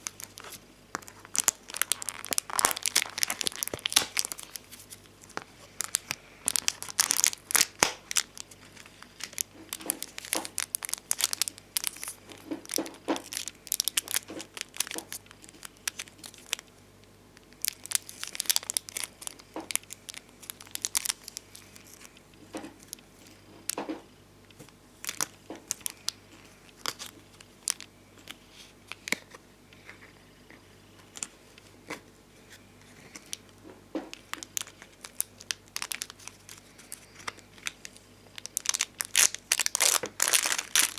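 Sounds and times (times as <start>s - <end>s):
stickers crinkling and peeling: 0.0s - 40.9s.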